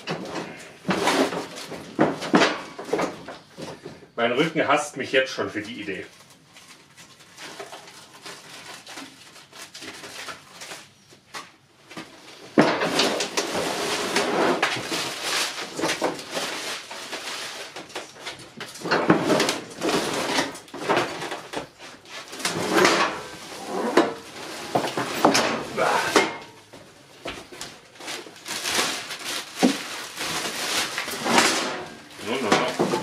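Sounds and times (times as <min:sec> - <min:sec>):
packaging scraping and rustling: 0:00.0 - 0:03.9, 0:05.8 - 0:33.0.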